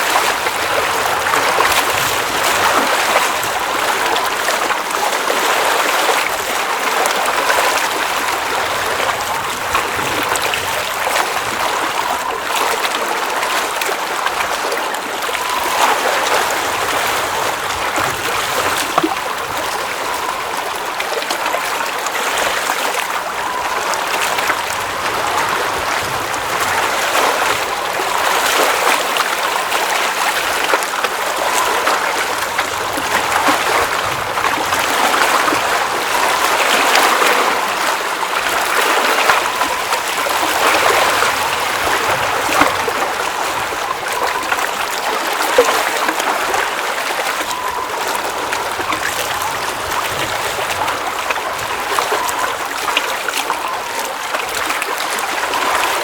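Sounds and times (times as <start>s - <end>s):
water running and splashing: 0.0s - 56.0s
water trickling: 0.0s - 56.0s.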